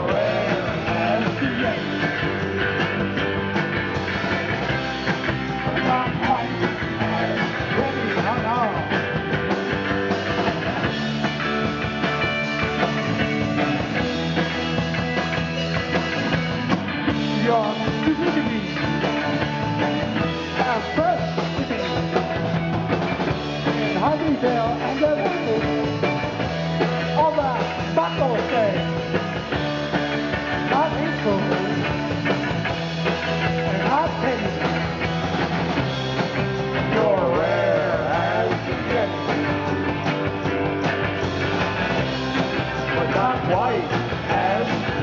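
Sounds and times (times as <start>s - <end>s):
bending guitar lead line: 0.0s - 45.0s
rock band playing live: 0.0s - 45.0s.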